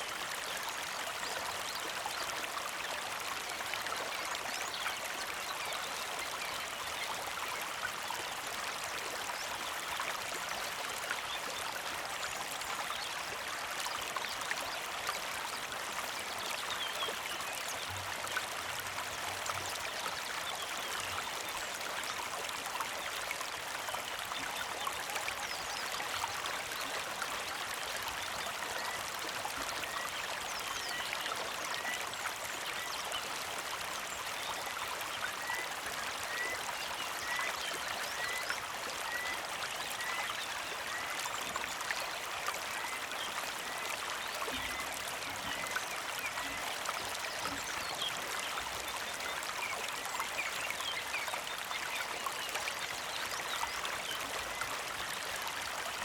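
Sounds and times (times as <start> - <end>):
creek flowing over rocks: 0.0 - 56.0.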